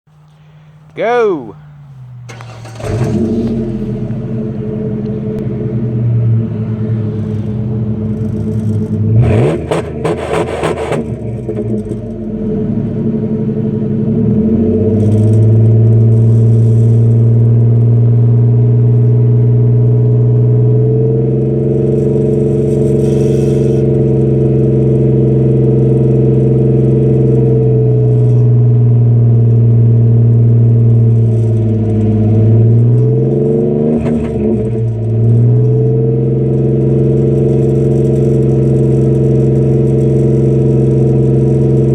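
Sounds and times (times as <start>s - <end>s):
truck exhaust low note: 0.1s - 41.9s.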